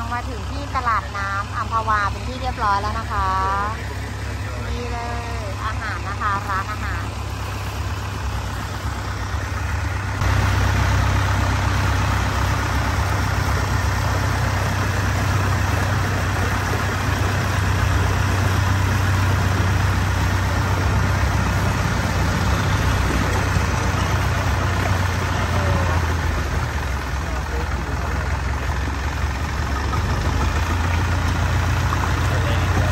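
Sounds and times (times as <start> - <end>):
motorboat engine droning: 0.0 - 32.9.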